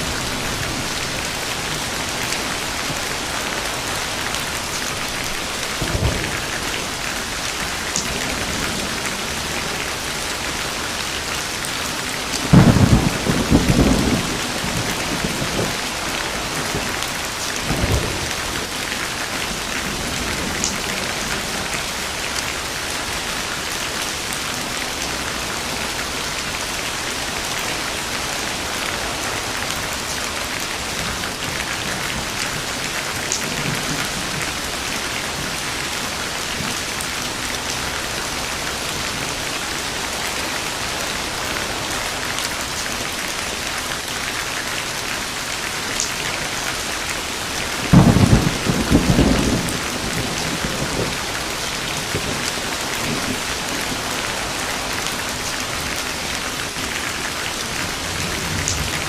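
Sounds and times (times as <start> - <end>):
thunder rumbling: 0.0 - 42.3, 46.2 - 59.0
steady rain: 0.0 - 59.0.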